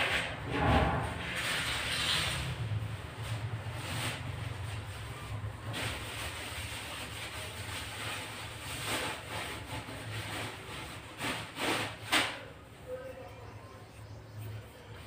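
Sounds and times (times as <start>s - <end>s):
gas burner rumble and hiss: 0.0s - 12.8s.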